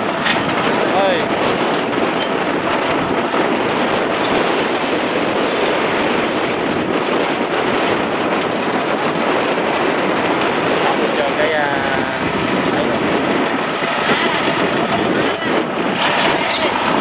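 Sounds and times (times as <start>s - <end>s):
heavy machinery engine: 0.0s - 17.0s.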